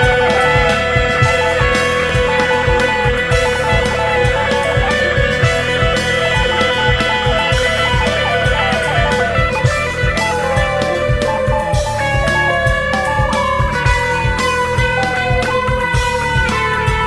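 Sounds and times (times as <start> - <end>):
electric guitar sliding notes: 0.0 - 17.0
steady rock beat: 0.0 - 17.0.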